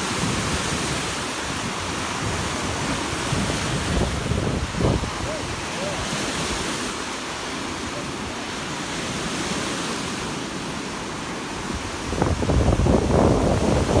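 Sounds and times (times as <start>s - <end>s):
wind buffeting microphone: 0.0s - 9.6s, 11.5s - 14.0s
waves washing up a beach: 0.0s - 14.0s.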